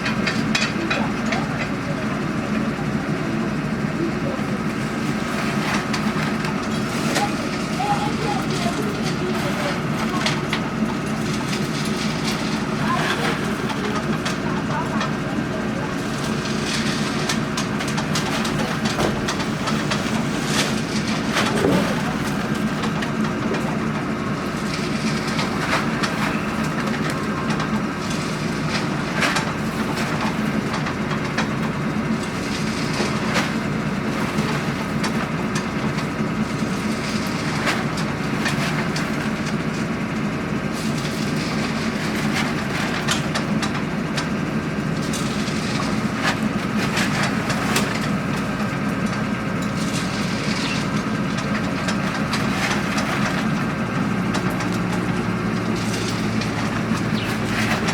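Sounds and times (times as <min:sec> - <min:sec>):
drilling rig engine running: 0:00.0 - 0:57.9.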